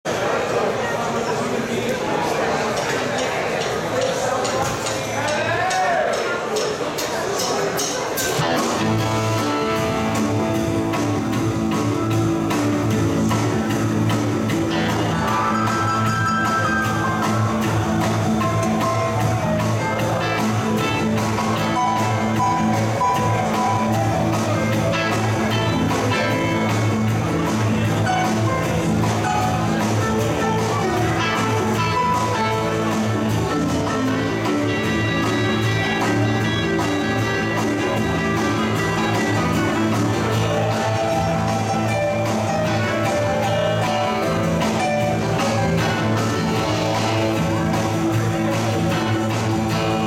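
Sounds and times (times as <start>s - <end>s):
drum kit beat: 4.5s - 50.0s
live rock band playing: 7.5s - 50.0s
bass guitar: 8.2s - 50.0s
electric guitars: 8.3s - 50.0s.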